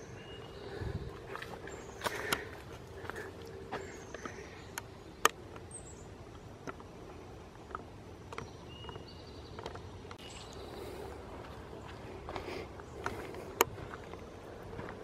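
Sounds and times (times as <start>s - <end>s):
low outdoor background: 0.0s - 15.0s
footsteps on dirt trail: 0.2s - 15.0s.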